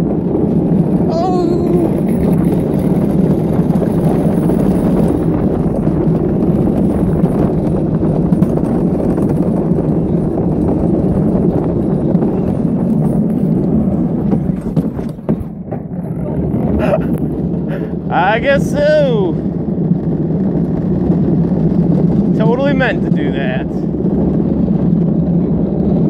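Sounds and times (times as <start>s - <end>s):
wheels rolling on asphalt: 0.0s - 26.0s.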